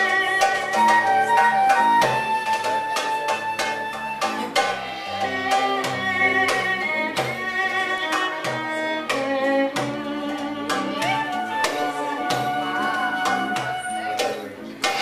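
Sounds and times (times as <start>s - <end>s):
drum strikes: 0.0s - 15.0s
violin playing sustained melody: 0.0s - 15.0s.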